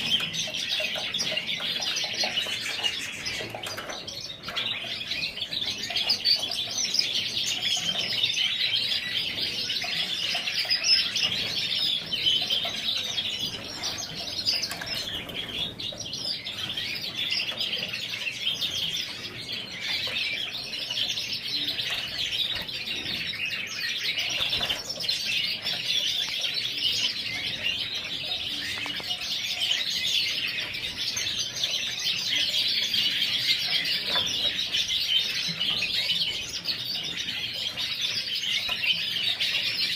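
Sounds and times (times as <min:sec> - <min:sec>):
canaries chirping and singing: 0:00.0 - 0:39.9.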